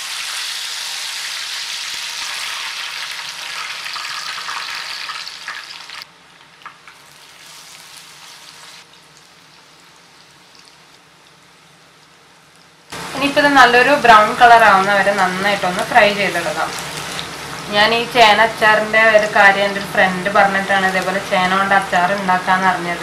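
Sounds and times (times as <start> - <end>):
food sizzling in hot oil: 0.0 - 12.0, 12.9 - 22.6.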